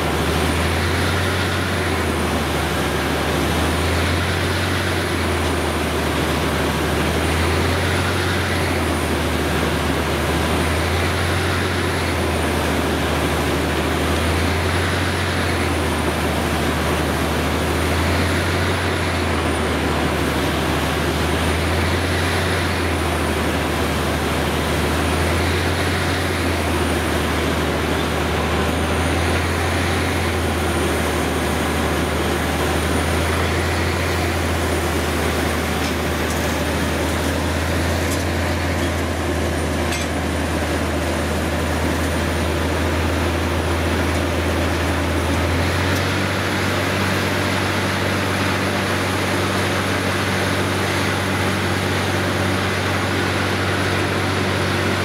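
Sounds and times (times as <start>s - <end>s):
drilling rig engine drone: 0.0s - 55.0s.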